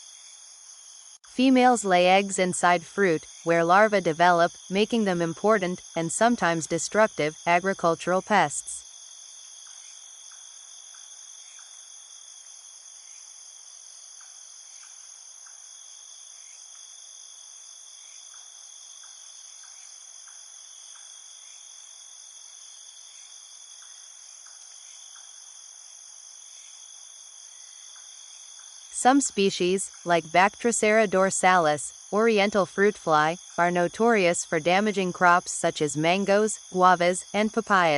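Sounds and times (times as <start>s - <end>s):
faint insect chirps: 0.0s - 37.9s
insects trilling: 0.0s - 37.9s.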